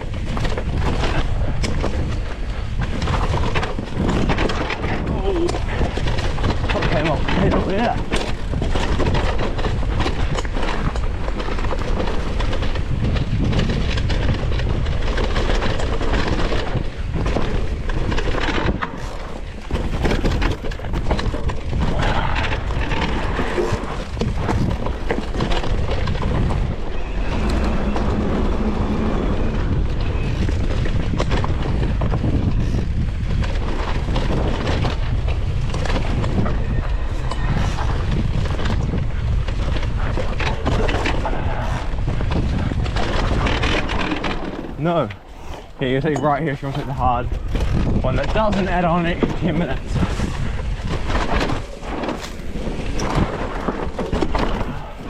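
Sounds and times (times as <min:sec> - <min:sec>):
bike rattling: 0:00.0 - 0:55.0
tyres rumbling on dirt: 0:00.0 - 0:55.0.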